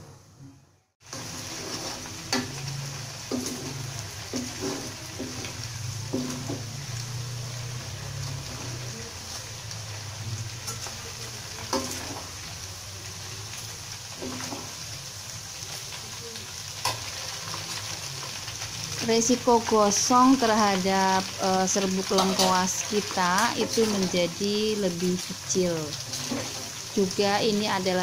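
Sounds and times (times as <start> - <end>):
oil sizzling in a wok: 1.0 - 28.0.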